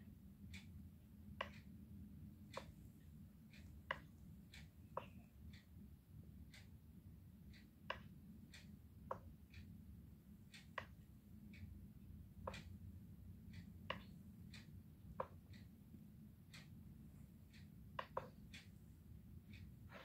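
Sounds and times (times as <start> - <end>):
faint irregular clicks: 0.0 - 20.0.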